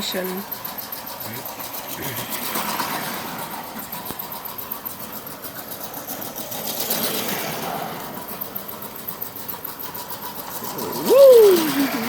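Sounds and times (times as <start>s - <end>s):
toy train motor whirring: 0.0s - 12.0s
wheels ticking over rail joints: 0.0s - 12.0s.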